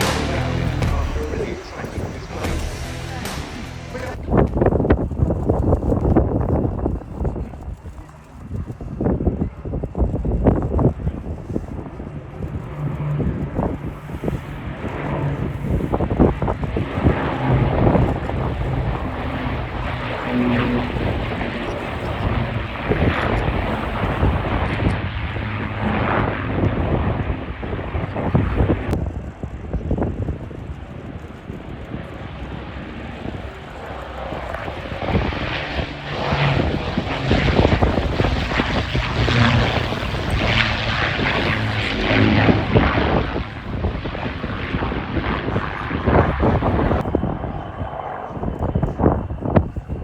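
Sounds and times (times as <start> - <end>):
low rumble: 0.0 - 7.8, 8.6 - 50.0
plane flying past: 0.0 - 50.0
wind buffeting microphone: 0.0 - 50.0.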